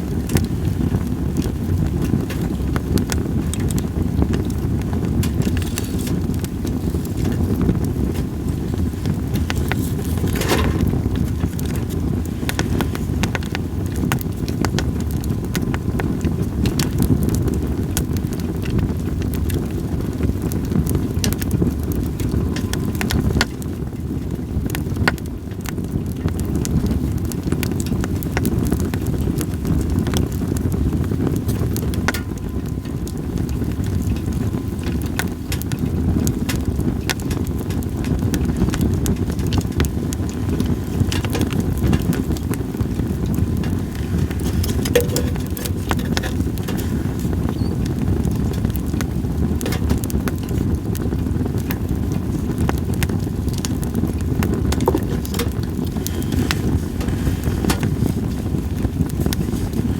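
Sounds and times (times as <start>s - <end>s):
campfire crackling and popping: 0.0s - 59.9s
low rumble of wind: 0.0s - 59.9s.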